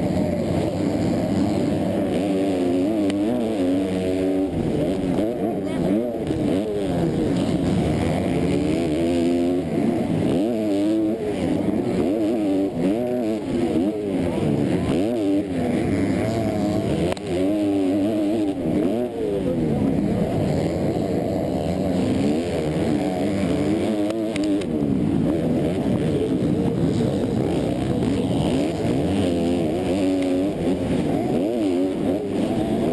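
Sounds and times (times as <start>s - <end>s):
motocross engine revving: 0.0s - 32.9s.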